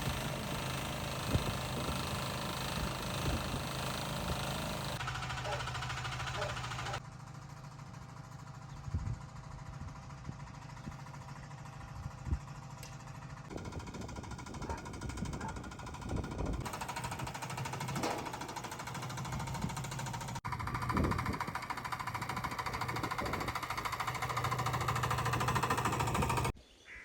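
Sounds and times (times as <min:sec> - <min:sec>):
small engine chattering: 0:00.0 - 0:26.6.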